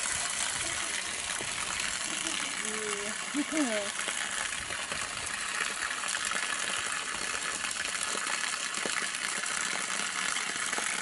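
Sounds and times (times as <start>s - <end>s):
hose water splashing on ground: 0.0s - 11.0s.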